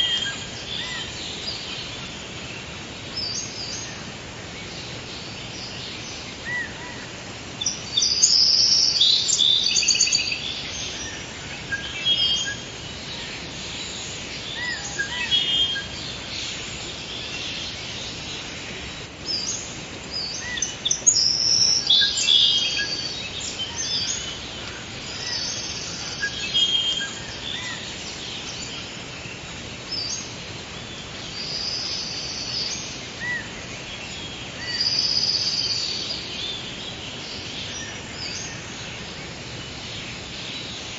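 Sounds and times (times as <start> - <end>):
birds chirping and trilling: 0.0 - 40.9
steady background hiss: 0.0 - 40.9.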